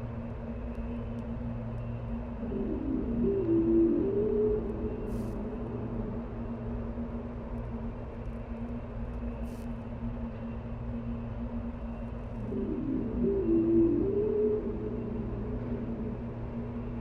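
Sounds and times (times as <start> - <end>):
held low hum: 0.0 - 8.6, 10.3 - 17.0.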